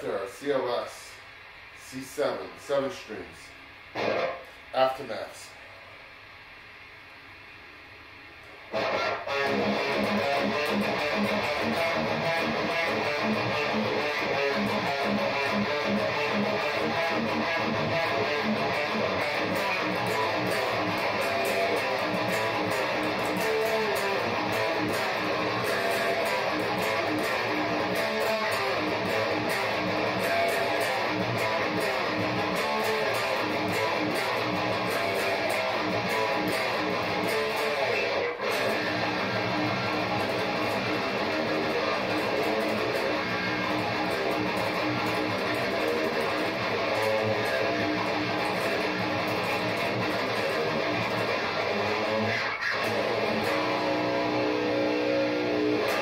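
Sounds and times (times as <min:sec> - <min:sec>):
heavy metal electric guitar riffing: 0:04.0 - 0:05.2, 0:08.7 - 0:56.0.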